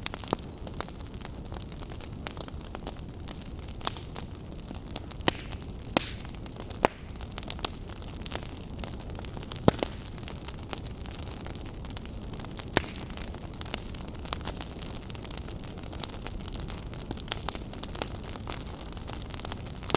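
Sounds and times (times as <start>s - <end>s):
campfire crackling and popping: 0.0s - 19.9s
fire rumble and hiss: 0.0s - 19.9s.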